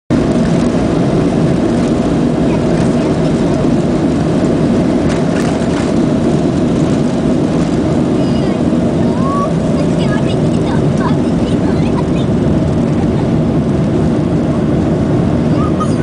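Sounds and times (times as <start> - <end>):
jet takeoff rumble in cabin: 0.1 - 16.0.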